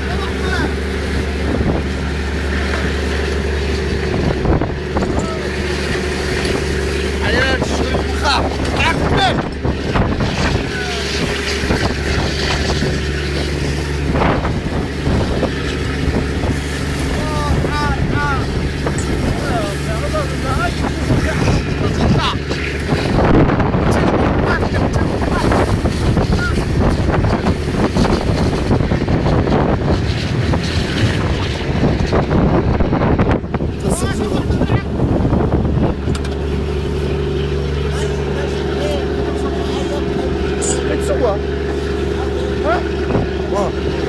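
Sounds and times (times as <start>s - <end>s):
boat motor running: 0.0s - 44.0s
wind buffeting microphone: 0.0s - 44.0s.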